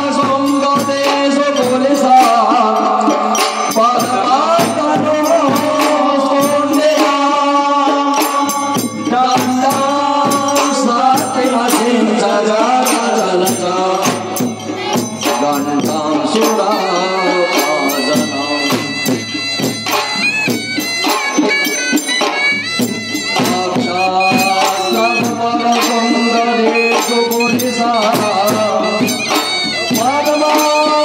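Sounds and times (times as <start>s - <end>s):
devotional folk music: 0.0s - 31.0s
steady percussion beat: 0.0s - 31.0s.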